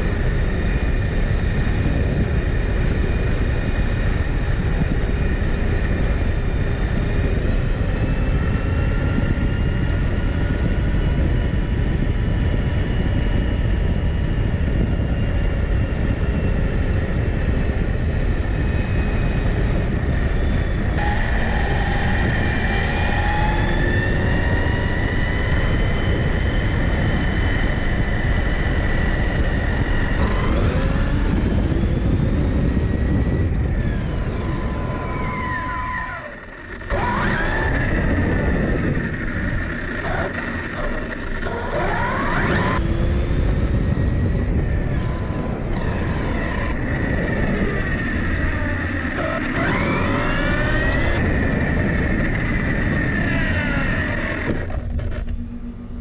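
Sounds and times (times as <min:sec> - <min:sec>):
wind rushing: 0:00.0 - 0:55.1
electric motor whining: 0:00.0 - 0:56.0.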